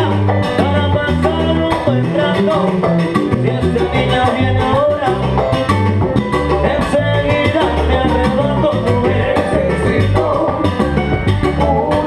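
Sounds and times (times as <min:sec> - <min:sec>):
bass line: 0:00.0 - 0:12.0
congas and bongos: 0:00.0 - 0:12.0
drums: 0:00.0 - 0:12.0
piano: 0:00.0 - 0:12.0.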